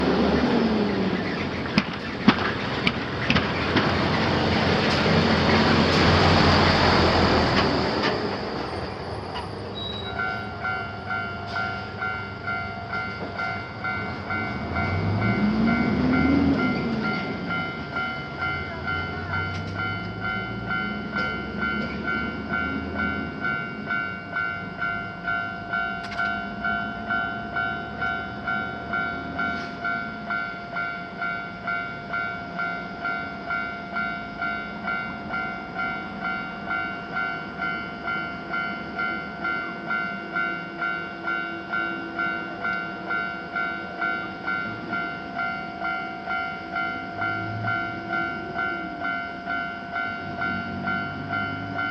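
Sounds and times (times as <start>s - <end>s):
electronic crossing warning bell: 4.8s - 51.9s.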